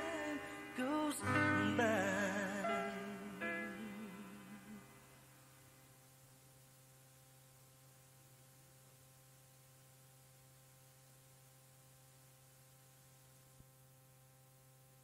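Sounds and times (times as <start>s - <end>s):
faint electrical hum: 0.0s - 15.0s
tape hiss: 0.0s - 15.0s.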